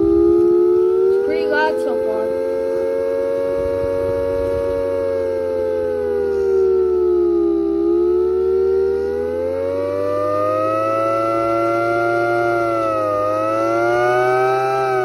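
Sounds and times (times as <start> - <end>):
siren wailing: 0.0 - 15.0
steady low hum: 0.0 - 15.0.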